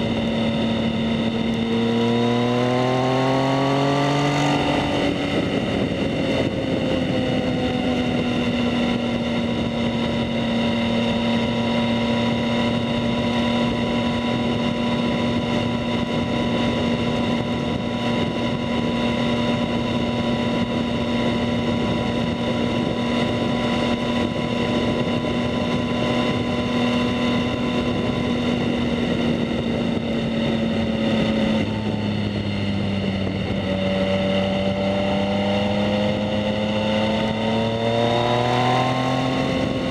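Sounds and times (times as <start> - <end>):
motorcycle engine cruising: 0.0 - 39.9
rushing wind noise: 0.0 - 39.9.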